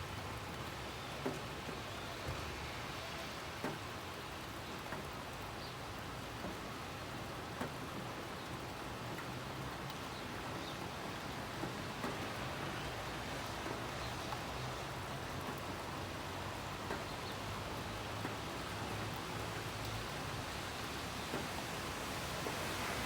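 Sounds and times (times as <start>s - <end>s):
steady rain hissing: 0.0s - 23.0s.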